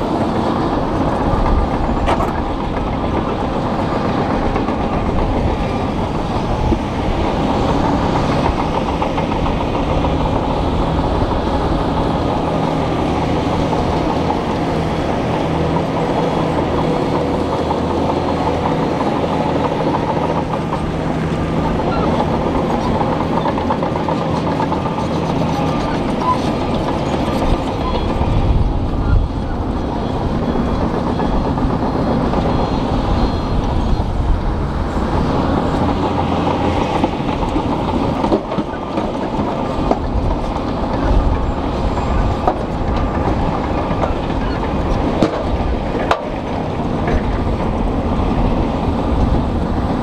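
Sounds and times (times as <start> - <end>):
diesel engine running: 0.0 - 50.0
steel tracks clattering: 0.0 - 50.0.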